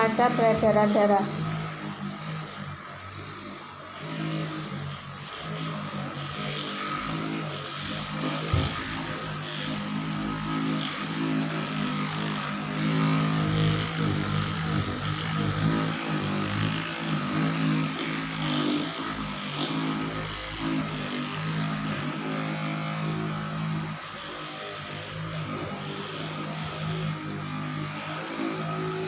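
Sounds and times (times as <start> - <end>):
massager motor hum: 0.0 - 29.0.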